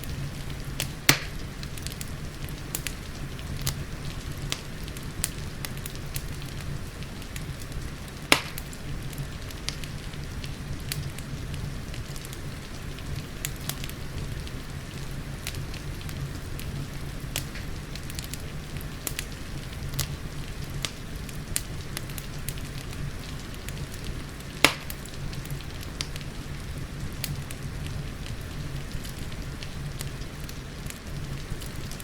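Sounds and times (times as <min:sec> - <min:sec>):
steady rain: 0:00.0 - 0:32.0
wood fire crackling: 0:00.0 - 0:32.0.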